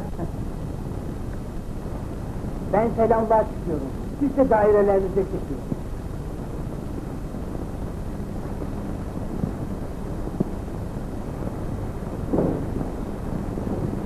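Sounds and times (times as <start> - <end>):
film soundtrack hiss and hum: 0.0 - 14.0.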